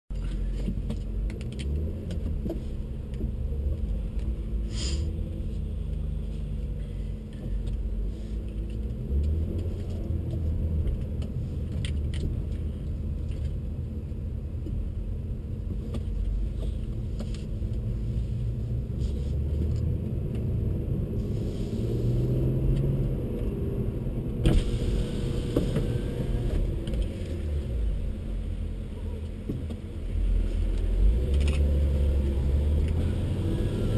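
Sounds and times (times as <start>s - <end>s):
car engine at low revs: 0.1s - 33.9s.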